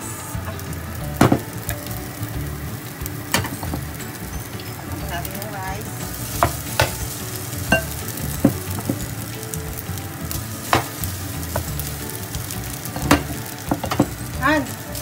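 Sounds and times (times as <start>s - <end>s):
rice sizzling in a pan: 0.0s - 15.0s.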